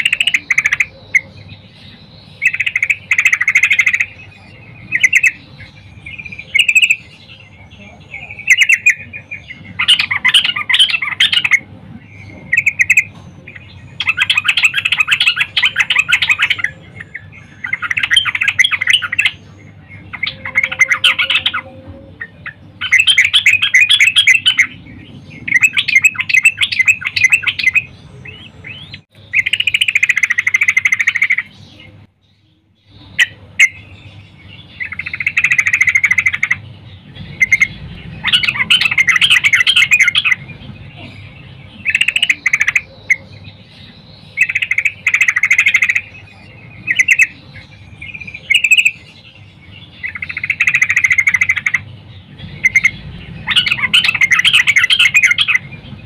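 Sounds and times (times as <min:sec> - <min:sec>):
bird chattering song: 0:00.0 - 0:56.0.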